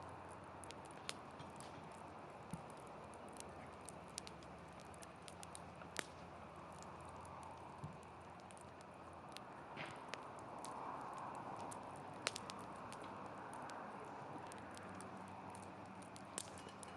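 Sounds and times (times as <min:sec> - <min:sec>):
fire crackling pops: 0:00.0 - 0:16.9
fire hiss: 0:00.1 - 0:16.7.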